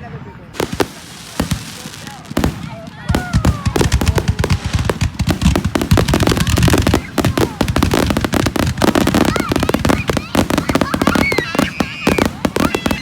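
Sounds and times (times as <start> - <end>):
fireworks banging and crackling: 0.3 - 13.0.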